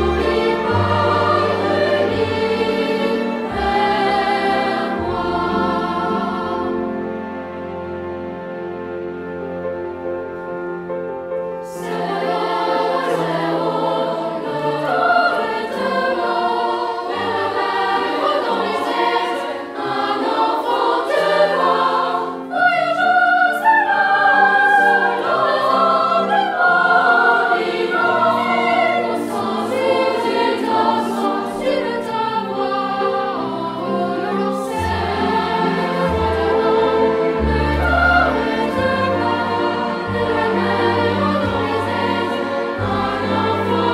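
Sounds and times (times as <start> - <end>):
choir singing with instruments: 0.0 - 43.9.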